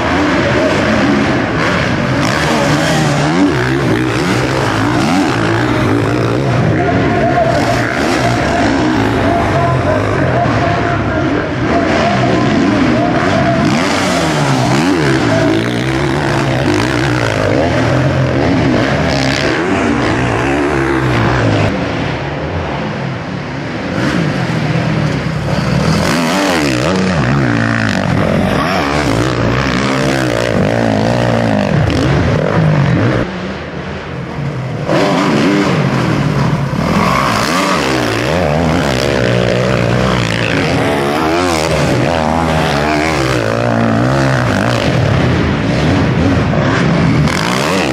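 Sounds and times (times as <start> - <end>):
motocross bikes revving: 0.0 - 47.9.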